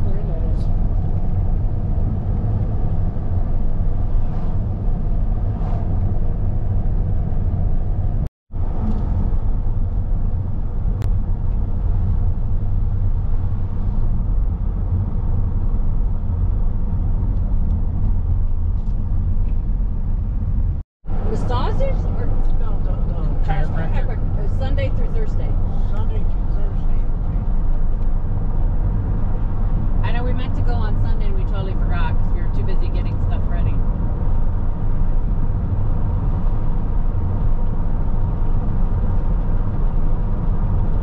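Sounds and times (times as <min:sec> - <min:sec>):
road and engine rumble in car: 0:00.0 - 0:41.0.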